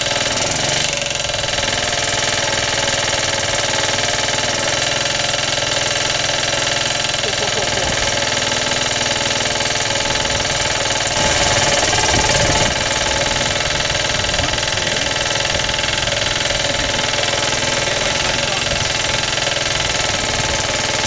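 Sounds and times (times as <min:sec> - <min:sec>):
engine running with rhythmic knock: 0:00.0 - 0:21.0.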